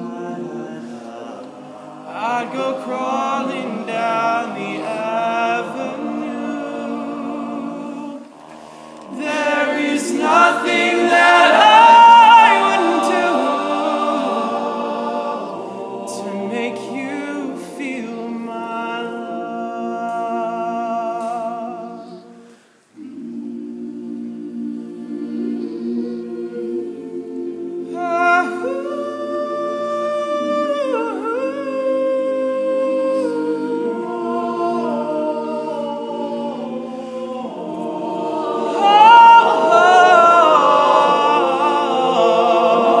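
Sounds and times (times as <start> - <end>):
lead voice singing: 0.0 - 22.4, 23.0 - 43.0
male a cappella group singing: 0.0 - 43.0.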